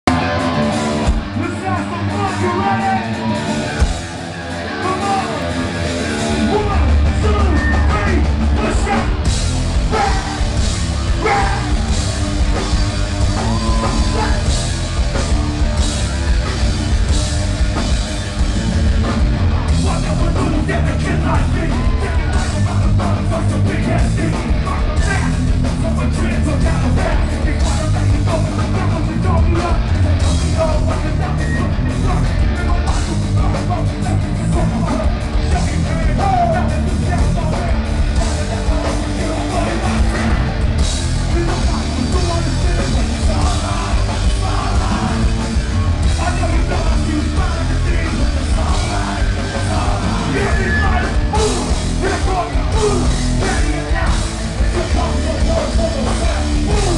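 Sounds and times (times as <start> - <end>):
live rock band: 0.0 - 56.9
vocalist singing: 1.3 - 3.9, 4.6 - 15.4, 19.1 - 56.9.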